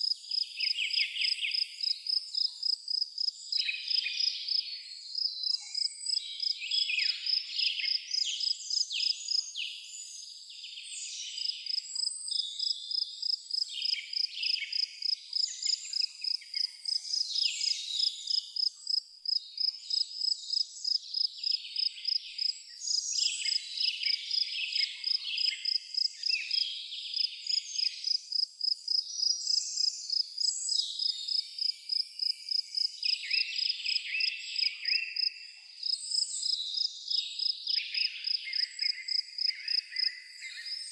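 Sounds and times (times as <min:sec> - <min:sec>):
cricket chirping: 0:00.0 - 0:04.6, 0:05.2 - 0:06.5, 0:11.4 - 0:40.9
songbirds singing: 0:00.0 - 0:40.9.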